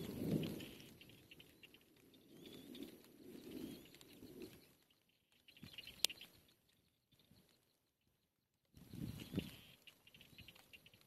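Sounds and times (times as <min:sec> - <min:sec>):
soft high chick chirps: 0:00.0 - 0:11.0.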